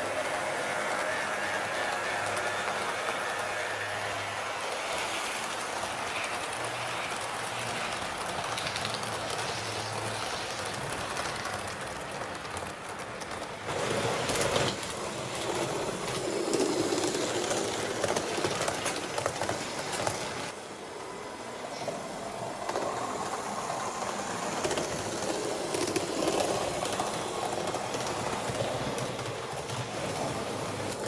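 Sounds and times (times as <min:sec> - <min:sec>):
train rolling on rails: 0:00.0 - 0:31.0.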